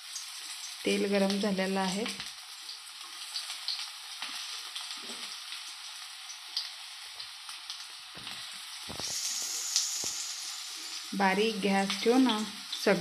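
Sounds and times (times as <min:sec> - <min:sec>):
cutlets frying in hot oil: 0:00.0 - 0:13.0.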